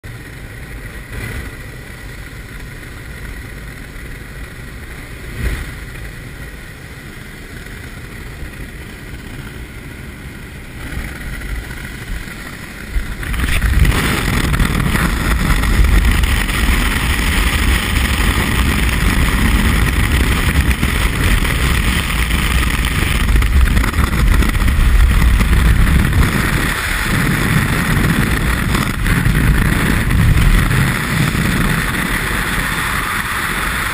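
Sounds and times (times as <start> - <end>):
aircraft engine drone: 0.0 - 33.9
wind rush on microphone: 0.1 - 33.9.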